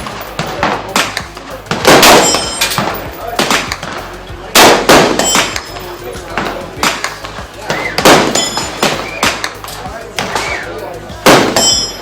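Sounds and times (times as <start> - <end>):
gunshots echoing: 0.0 - 5.7, 6.4 - 9.6, 11.2 - 12.0.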